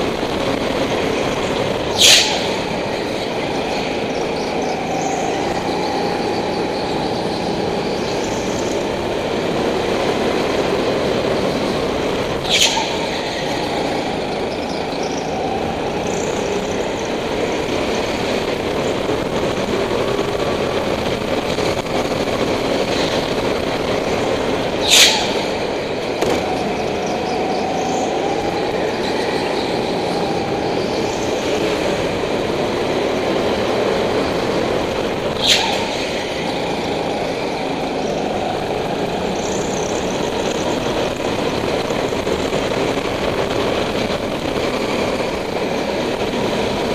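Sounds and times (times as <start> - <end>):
go-kart motor running: 0.0 - 46.9.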